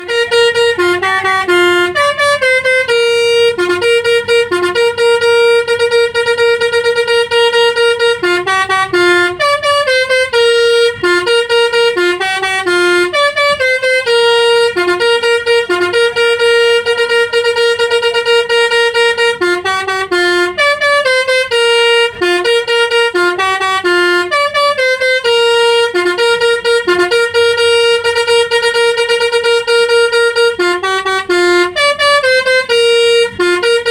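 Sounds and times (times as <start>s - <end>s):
musical air horns playing melody: 0.0s - 33.9s.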